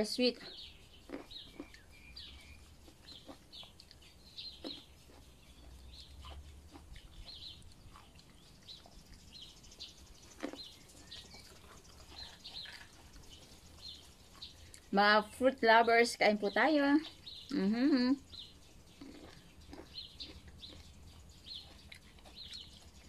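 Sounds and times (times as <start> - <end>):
high bird chirps: 0.0 - 23.0
grapes plucked and chewed: 0.3 - 14.9, 17.1 - 23.0.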